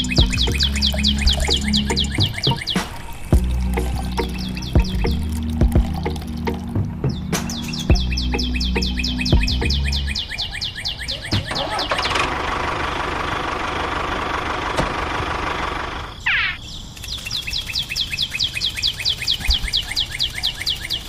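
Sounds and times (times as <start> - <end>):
rapid falling chirps: 0.0 - 21.0.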